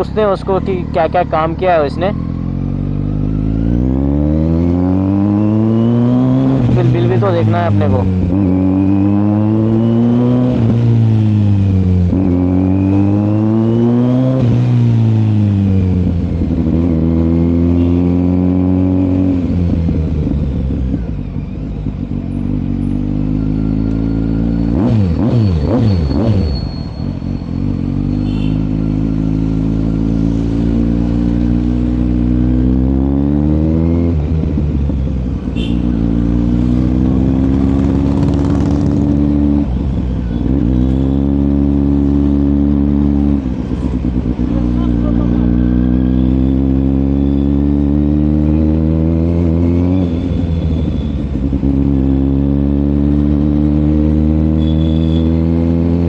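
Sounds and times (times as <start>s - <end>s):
motorcycle engine and exhaust: 0.0s - 56.0s.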